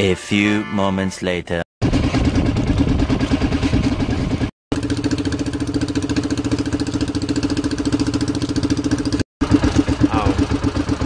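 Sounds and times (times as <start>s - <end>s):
small boat engine putter: 1.9s - 11.0s.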